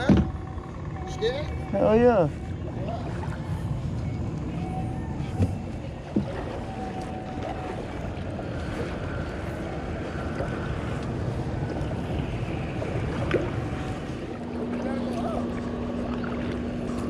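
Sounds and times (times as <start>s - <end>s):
water washing around kayak hull: 0.0s - 17.0s
wind buffeting microphone: 0.0s - 17.0s.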